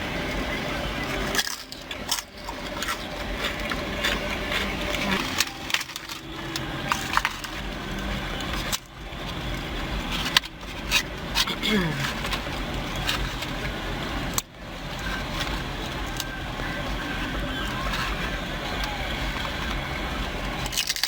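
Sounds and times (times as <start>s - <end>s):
low steady hum: 0.0s - 21.0s
chewing crunchy chips: 1.0s - 21.0s.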